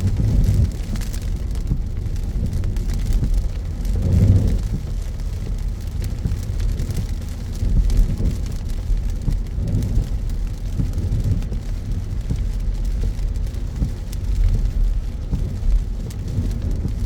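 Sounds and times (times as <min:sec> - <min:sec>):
car road and engine rumble: 0:00.0 - 0:17.0
rain pattering on car: 0:00.0 - 0:17.0.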